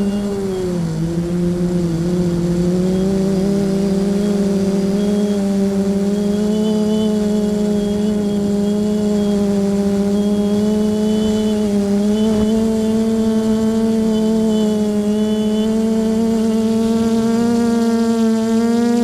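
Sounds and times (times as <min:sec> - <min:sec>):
drone motors humming: 0:00.0 - 0:19.0.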